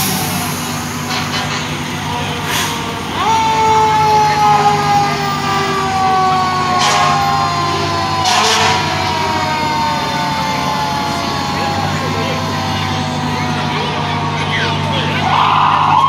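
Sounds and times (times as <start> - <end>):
fire truck engines rumbling: 0.0 - 16.0
fire truck siren: 0.0 - 16.0.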